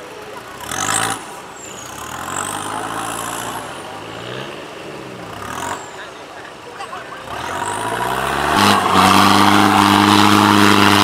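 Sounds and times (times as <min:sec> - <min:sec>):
off-road vehicle engine revving: 0:00.0 - 0:06.2, 0:07.1 - 0:11.0.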